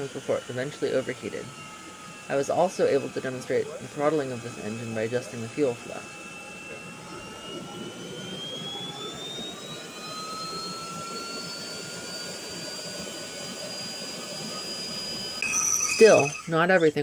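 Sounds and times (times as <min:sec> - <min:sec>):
exhaust rushing: 0:00.0 - 0:15.4
jet engine whine: 0:00.0 - 0:17.0.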